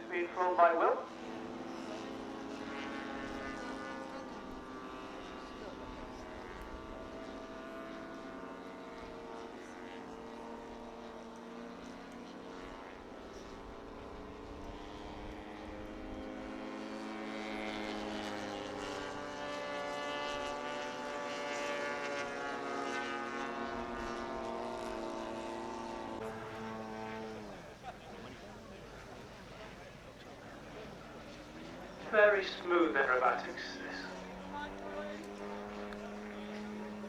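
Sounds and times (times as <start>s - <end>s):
model aircraft engine in flight: 0.0s - 37.0s.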